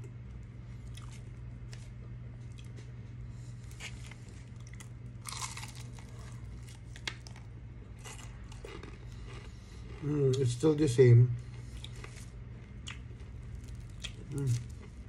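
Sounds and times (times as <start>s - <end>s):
steady low hum: 0.0s - 15.0s
crunching fried chicken: 0.3s - 10.7s, 11.4s - 15.0s.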